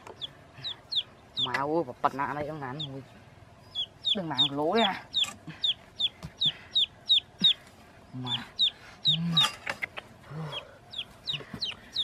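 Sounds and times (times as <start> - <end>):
bird peeping: 0.0 - 12.0.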